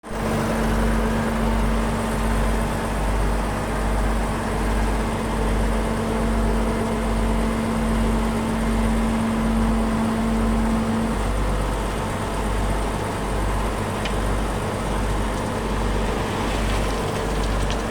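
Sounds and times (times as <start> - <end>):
heavy diesel engine running: 0.0 - 17.9.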